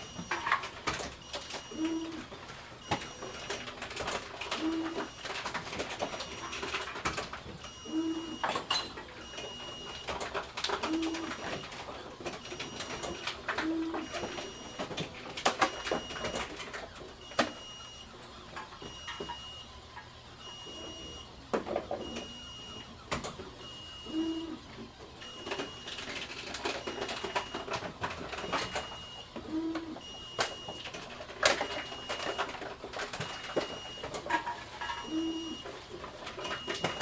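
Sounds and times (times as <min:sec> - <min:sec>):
steady mechanical background: 0:00.0 - 0:37.0.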